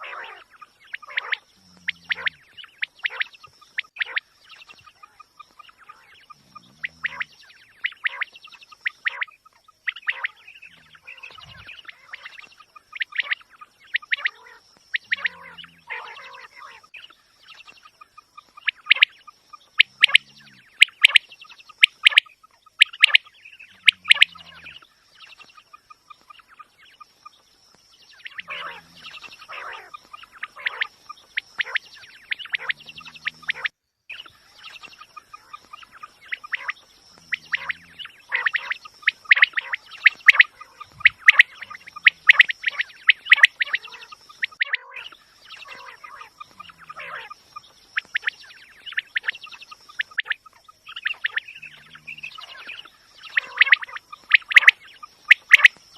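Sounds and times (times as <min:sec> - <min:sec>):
recorded quail calls: 0:00.0 - 0:55.9.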